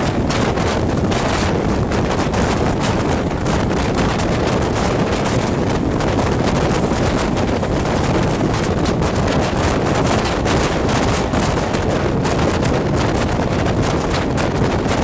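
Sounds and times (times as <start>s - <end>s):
train rumbling at speed: 0.0s - 15.0s
wind buffeting microphone: 0.0s - 15.0s.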